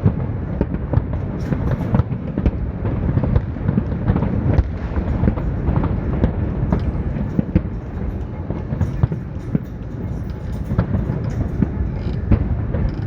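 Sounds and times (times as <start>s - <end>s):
fireworks bangs and cracks: 0.0s - 13.0s
fireworks booming: 0.0s - 13.0s.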